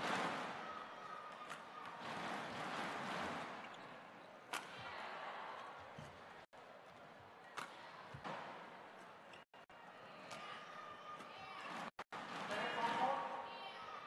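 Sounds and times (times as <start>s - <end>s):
large crowd noise: 0.0s - 14.0s.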